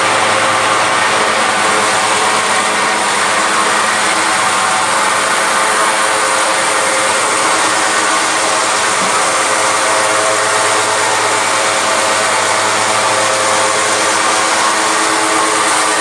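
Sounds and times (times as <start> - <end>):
furnace roaring: 0.0 - 16.0.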